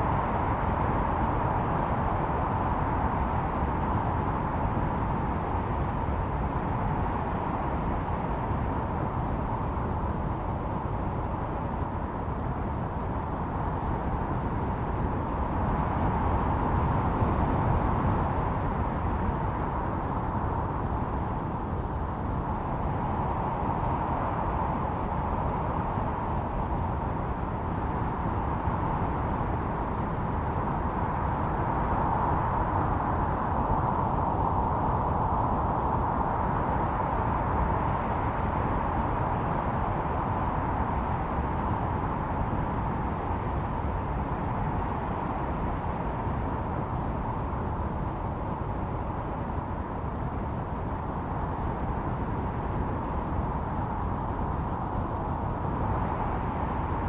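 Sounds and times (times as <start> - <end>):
howling snowstorm wind: 0.0 - 57.0.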